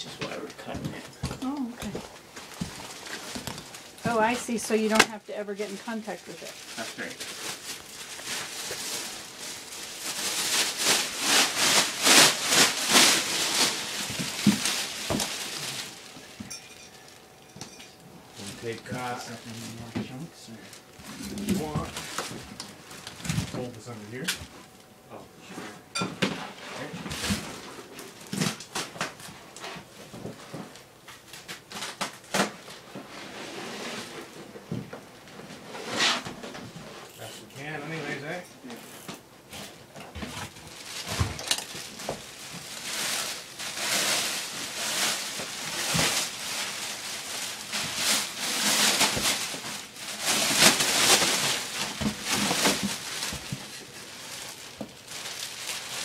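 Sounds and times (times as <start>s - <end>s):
linoleum scraping and rustling: 0.0s - 16.6s, 25.4s - 56.0s.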